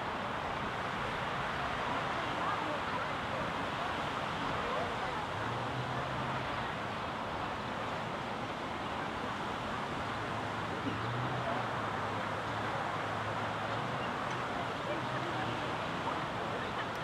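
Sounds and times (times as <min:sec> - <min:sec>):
city noise: 0:00.0 - 0:17.0
faint far-off voices: 0:01.2 - 0:08.1, 0:08.7 - 0:17.0.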